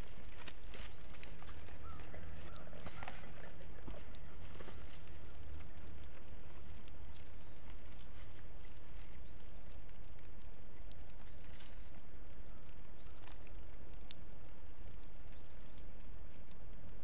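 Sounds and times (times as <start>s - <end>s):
footsteps in wood-chip mulch: 0.0s - 14.2s
low rumble and hiss: 0.0s - 17.0s.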